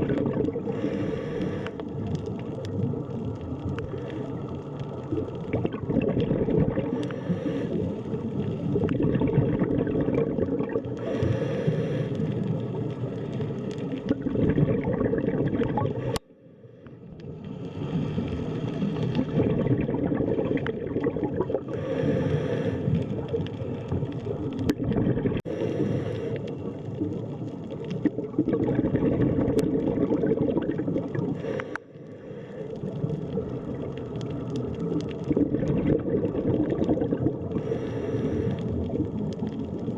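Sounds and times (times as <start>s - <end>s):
underwater rumble of water: 0.0s - 39.9s
water bubbling and gurgling: 0.0s - 39.9s.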